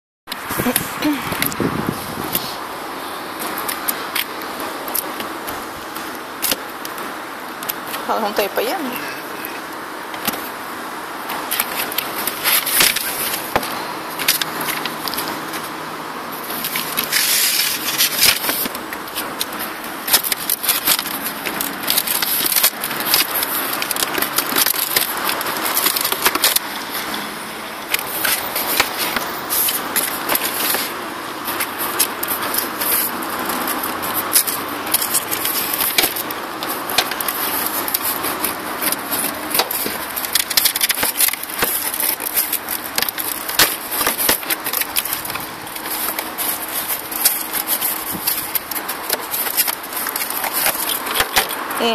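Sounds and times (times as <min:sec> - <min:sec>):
cardboard rustling and scraping: 0:00.3 - 0:51.9.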